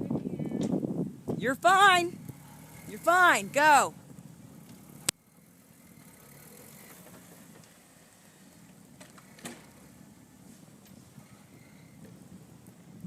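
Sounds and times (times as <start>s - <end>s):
faint engine rumble: 0.0s - 13.0s.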